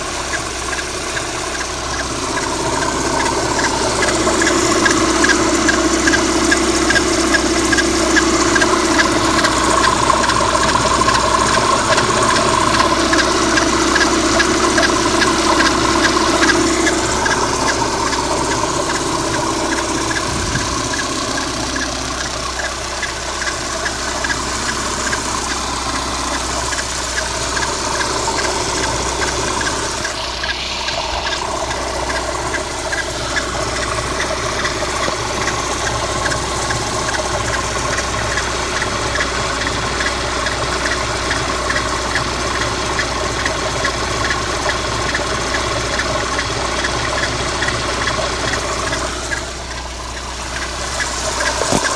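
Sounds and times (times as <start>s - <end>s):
car engine idling: 0.0s - 51.9s
light regular ticking: 0.0s - 51.9s.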